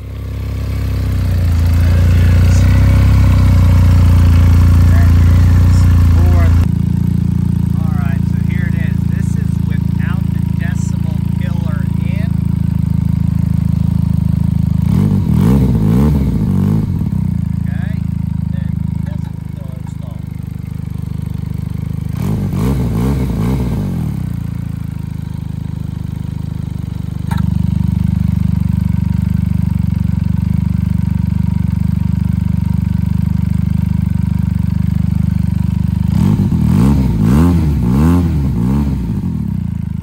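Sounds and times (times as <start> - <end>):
engine revving: 0.0 - 40.0
motorcycle engine idling: 0.0 - 40.0.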